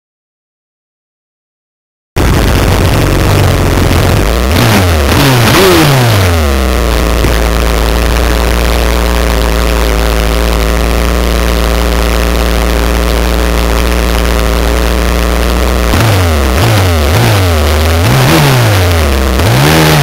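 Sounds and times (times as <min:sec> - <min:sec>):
motorbike engine idling: 0:02.2 - 0:20.0.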